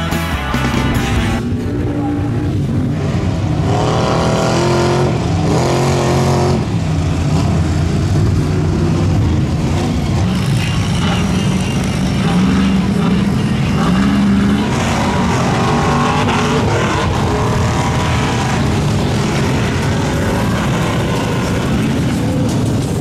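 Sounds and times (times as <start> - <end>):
truck engine running loud: 0.0 - 23.0.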